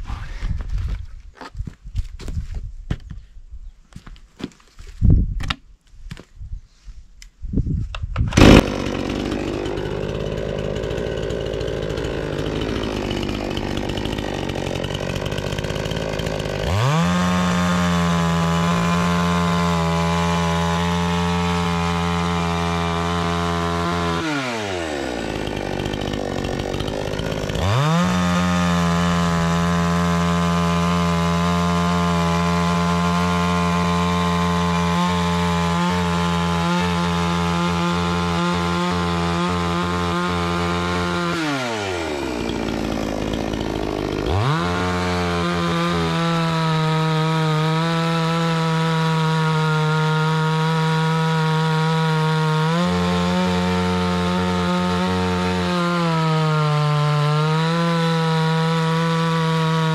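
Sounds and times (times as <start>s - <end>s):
chainsaw ripping a log: 8.2s - 59.9s.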